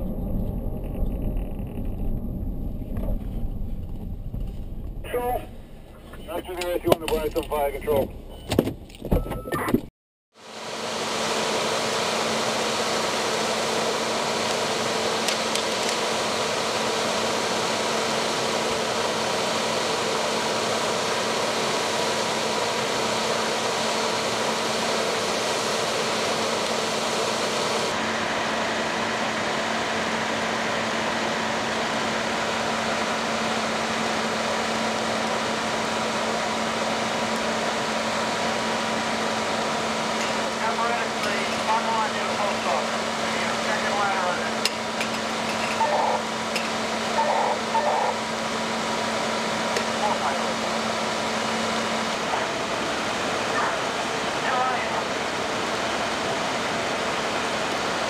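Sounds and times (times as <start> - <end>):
fire engine diesel engine droning: 0.0 - 9.0, 10.4 - 58.0.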